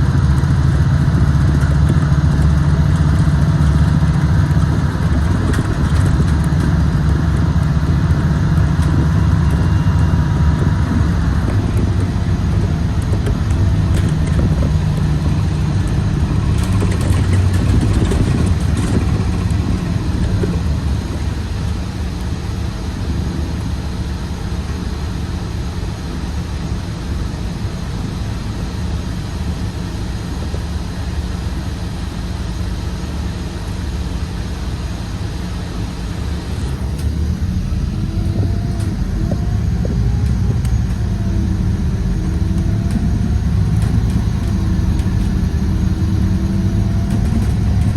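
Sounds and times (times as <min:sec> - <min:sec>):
bus engine rumbling: 0:00.0 - 0:47.9.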